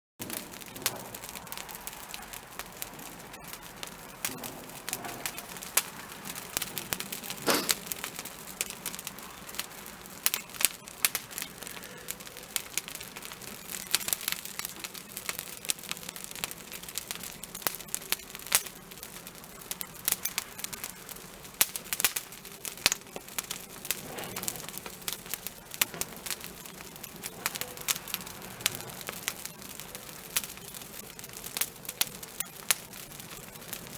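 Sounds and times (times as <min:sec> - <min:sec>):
wood fire crackling and popping: 0:00.2 - 0:33.9.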